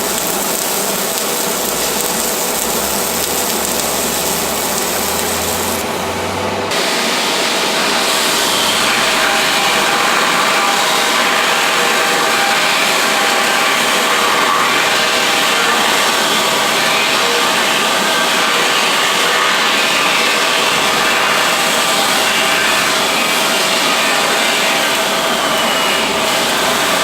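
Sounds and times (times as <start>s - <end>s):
welding arc: 0.0s - 6.0s, 8.0s - 27.0s.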